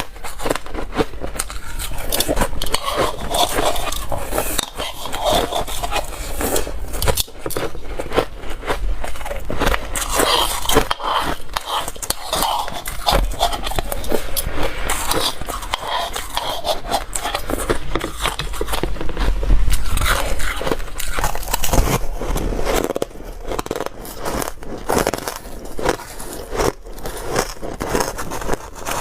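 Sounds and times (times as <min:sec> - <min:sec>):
chewing ice crunching: 0:00.0 - 0:29.0.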